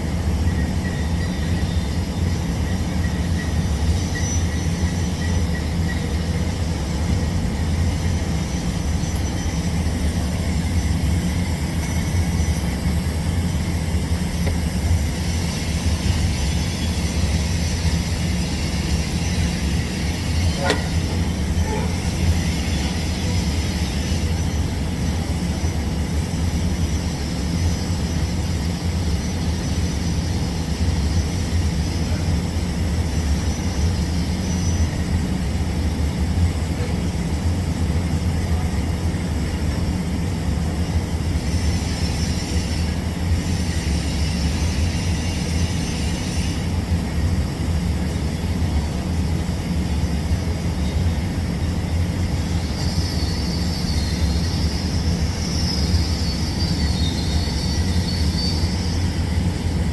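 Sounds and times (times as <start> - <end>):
welding hum with hiss: 0.1 - 59.9.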